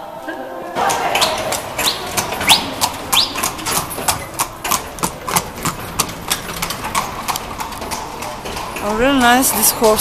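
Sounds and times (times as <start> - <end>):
horse hooves clip-clopping: 0.8 - 10.0.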